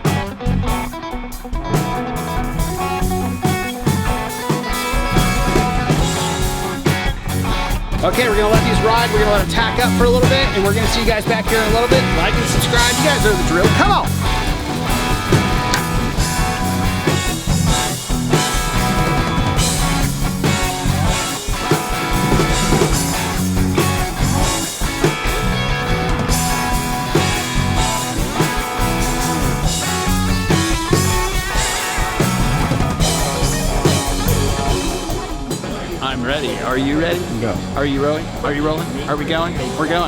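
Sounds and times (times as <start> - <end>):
rock band playing: 0.0 - 40.0.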